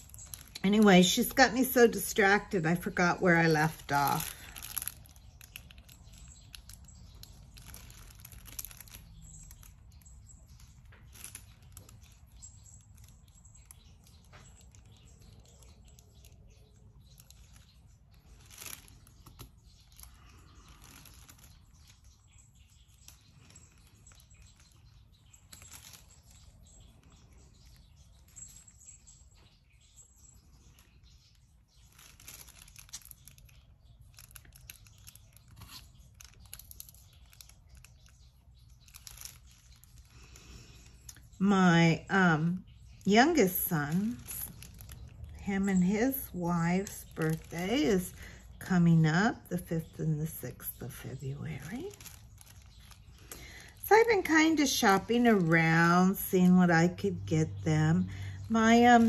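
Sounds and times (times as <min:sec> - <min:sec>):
plastic film rustling: 0:00.0 - 0:59.0.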